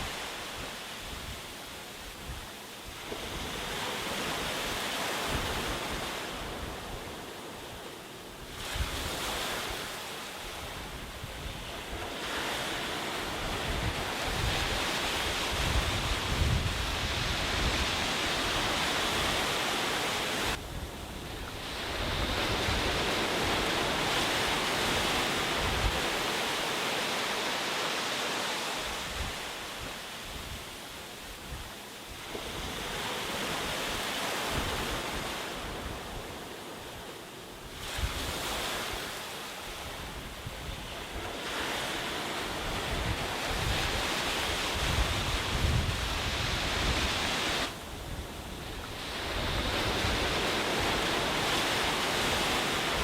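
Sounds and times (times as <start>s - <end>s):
wind buffeting the microphone: 0.0s - 26.7s, 28.4s - 37.0s, 37.6s - 53.0s
sea waves breaking on a beach: 0.0s - 53.0s.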